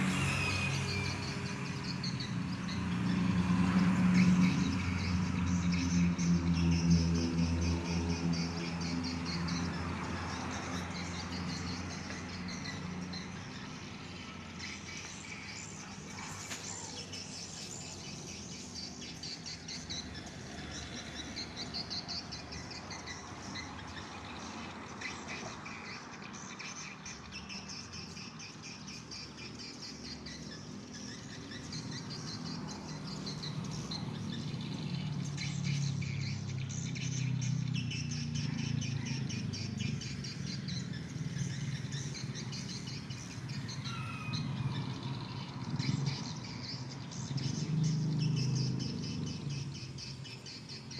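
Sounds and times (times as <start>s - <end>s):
birds twittering: 0.0s - 50.9s.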